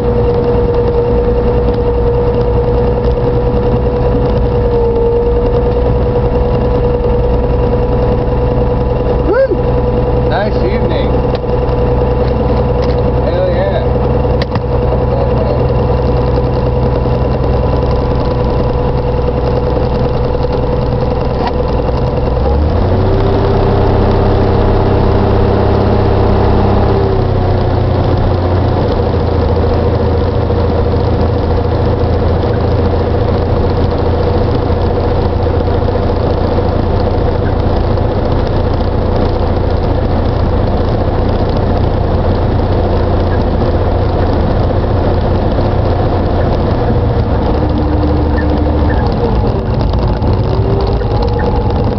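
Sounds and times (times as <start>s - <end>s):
aircraft engine running: 0.0s - 51.9s.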